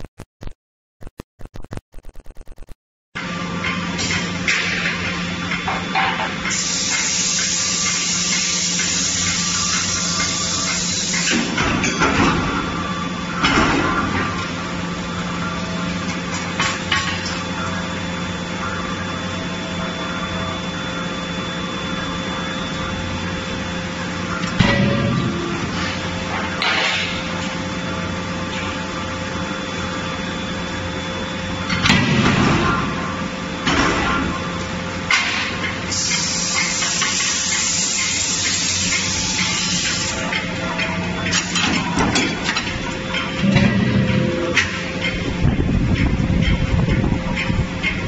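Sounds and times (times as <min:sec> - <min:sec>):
machinery humming: 0:03.2 - 0:48.0.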